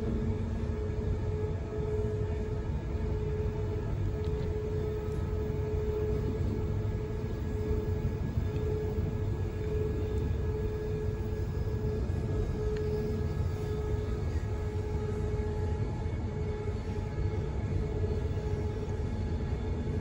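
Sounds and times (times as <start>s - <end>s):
train motor whine: 0.0s - 20.0s
train rumble inside carriage: 0.0s - 20.0s.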